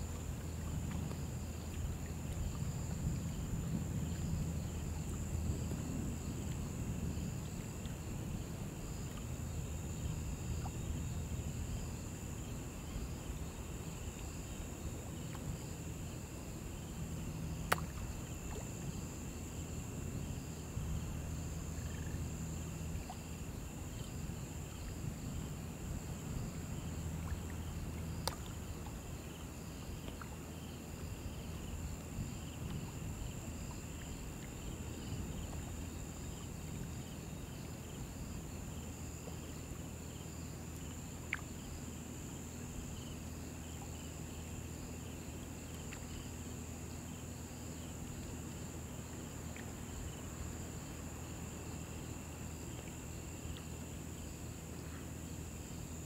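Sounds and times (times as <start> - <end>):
shallow river water flowing: 0.0 - 56.0
high-pitched insect chorus: 1.4 - 56.0.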